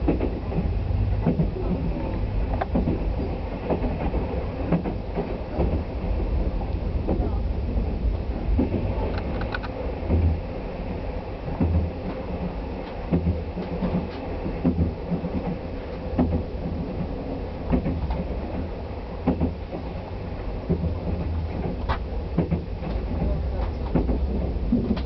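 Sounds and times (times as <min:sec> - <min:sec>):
train low rumble: 0:00.0 - 0:25.0
wheels clacking over rail joints: 0:00.0 - 0:25.0.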